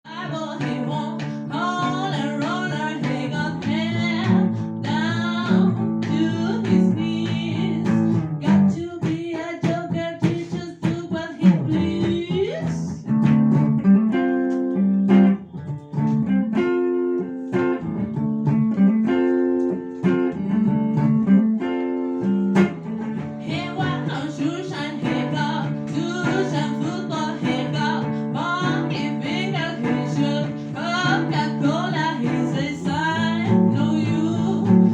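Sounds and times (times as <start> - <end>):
guitar strumming: 0.1 - 9.0, 9.7 - 34.9.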